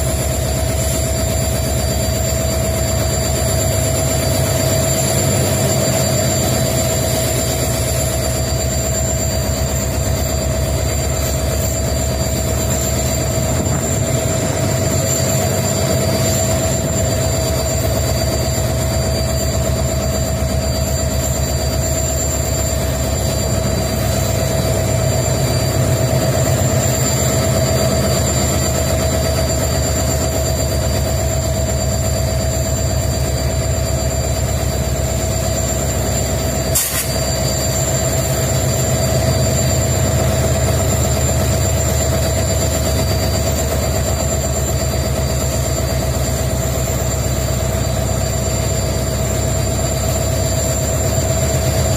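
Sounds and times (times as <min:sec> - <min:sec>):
diesel locomotive engines rumbling: 0:00.0 - 0:51.9
high-pitched hum: 0:00.0 - 0:51.9.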